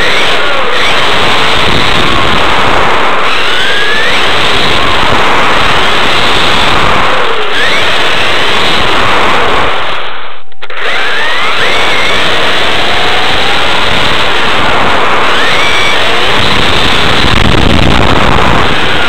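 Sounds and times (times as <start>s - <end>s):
rc car motor whining: 0.0s - 19.0s
rough rush of driving: 0.0s - 19.0s.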